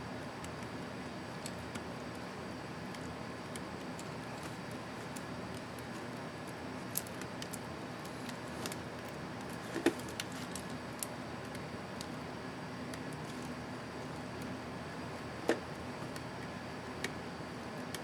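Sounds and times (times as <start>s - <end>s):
low hiss and hum: 0.0s - 18.0s.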